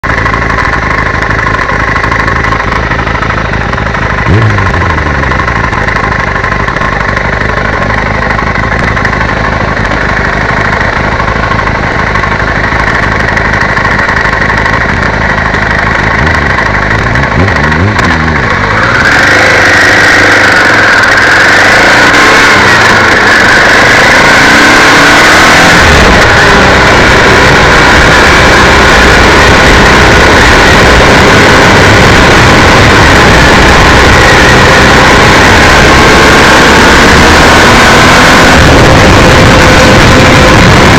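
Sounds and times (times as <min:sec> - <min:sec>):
motorcycle engines idling and revving: 0:00.0 - 0:40.9
motorcycles riding off: 0:01.4 - 0:40.9.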